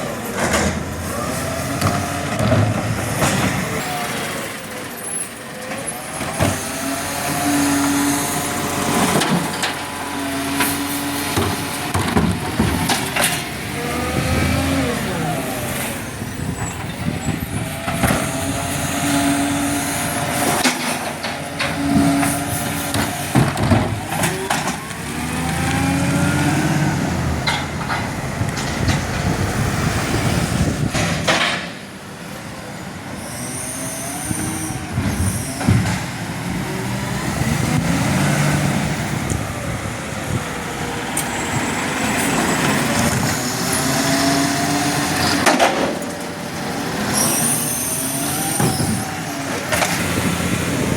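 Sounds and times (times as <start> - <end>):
garbage truck engine: 0.0 - 50.9.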